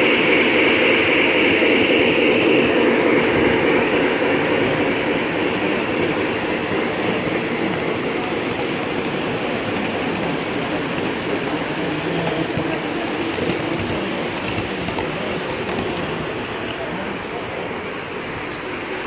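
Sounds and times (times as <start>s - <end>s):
model train wheels rumbling: 0.0s - 19.0s.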